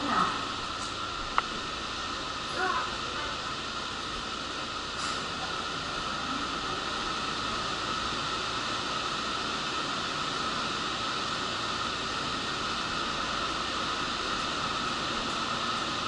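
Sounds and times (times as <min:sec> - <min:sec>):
faint steady whine: 0:00.0 - 0:16.0
ventilation rushing: 0:00.0 - 0:16.0.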